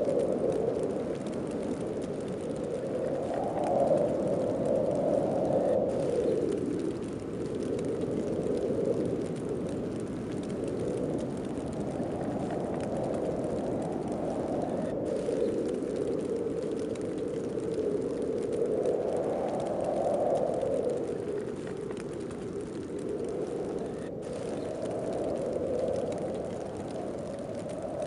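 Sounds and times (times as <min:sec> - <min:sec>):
snowstorm wind gusting: 0:00.0 - 0:28.0.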